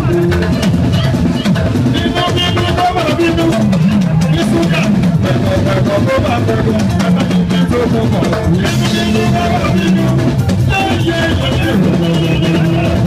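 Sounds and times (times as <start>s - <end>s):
band playing live: 0.0s - 13.0s
man singing through microphone: 0.0s - 13.0s.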